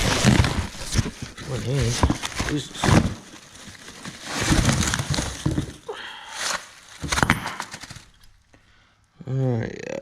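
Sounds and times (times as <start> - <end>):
packaging rustling and tearing: 0.0 - 8.4.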